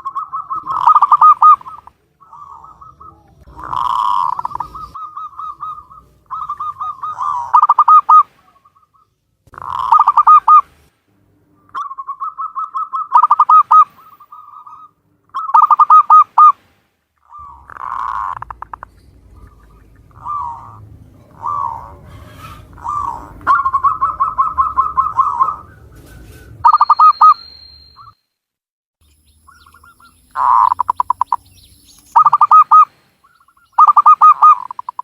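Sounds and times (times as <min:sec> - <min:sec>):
dove cooing: 0:00.0 - 0:10.6, 0:11.7 - 0:16.5, 0:17.3 - 0:27.4, 0:29.4 - 0:35.0.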